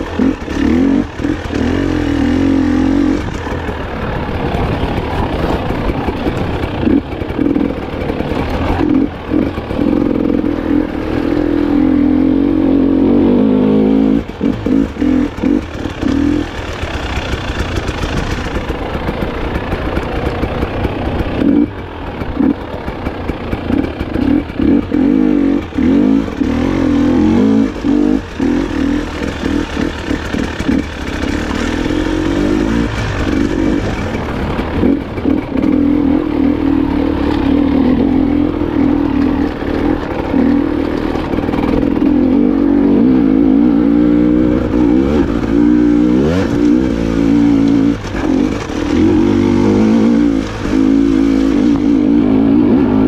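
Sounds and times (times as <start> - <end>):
chassis clatter over rough ground: 0.0 - 53.0
motorcycle engine revving: 0.0 - 53.0.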